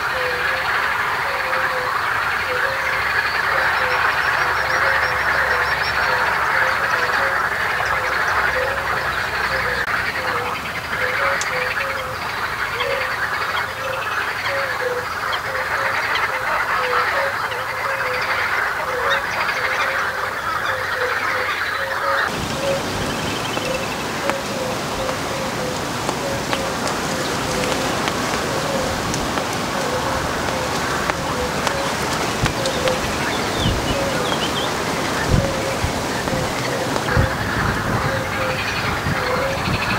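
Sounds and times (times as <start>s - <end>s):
chorus of animal calls: 0.0s - 39.9s
steady noisy hiss: 0.0s - 39.9s.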